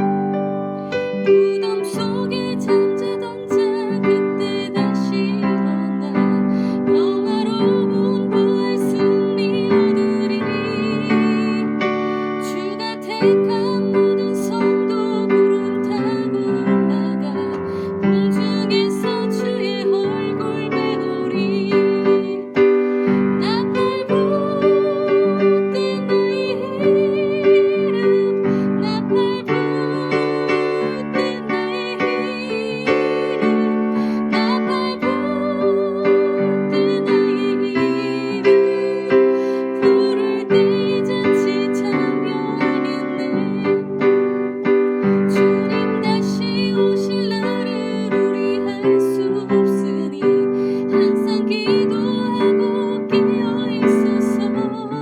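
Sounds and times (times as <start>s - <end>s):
electric keyboard playing a hymn: 0.0s - 55.0s.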